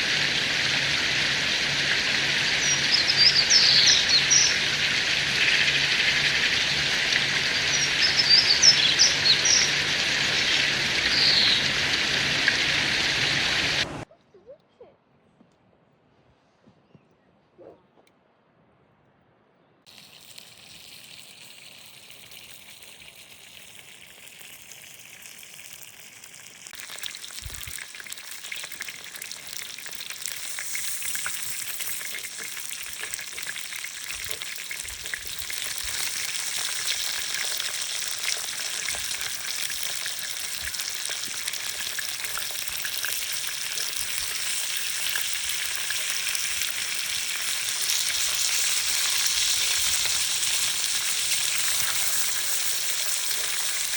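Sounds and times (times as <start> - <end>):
food sizzling in a frying pan: 0.0 - 13.8, 19.9 - 53.9.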